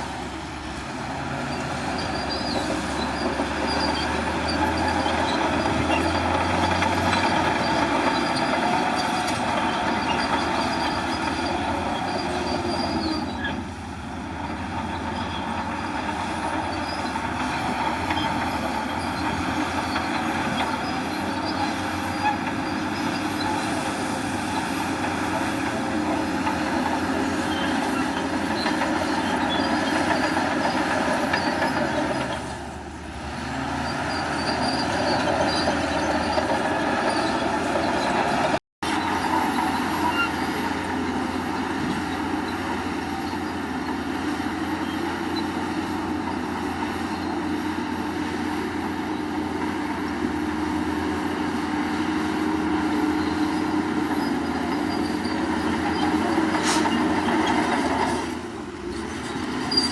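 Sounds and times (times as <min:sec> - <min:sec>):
bulldozer diesel engine: 0:00.0 - 0:59.9
steel tracks clanking and squealing: 0:01.2 - 0:59.9.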